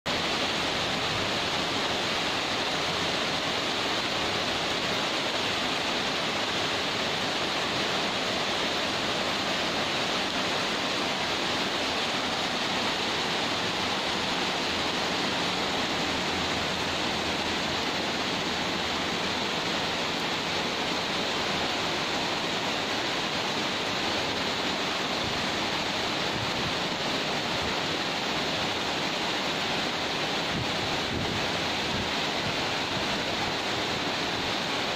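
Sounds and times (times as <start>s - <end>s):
heavy rain on roofs and street: 0.0s - 34.9s.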